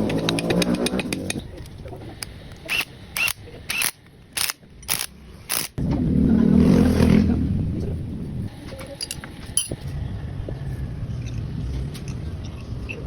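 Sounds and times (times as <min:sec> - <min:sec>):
vehicle engine: 0:00.0 - 0:13.0.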